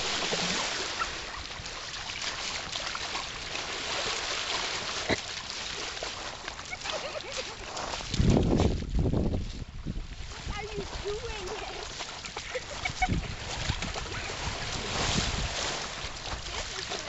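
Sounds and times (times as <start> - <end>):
dog splashing through water: 0.0 - 17.0.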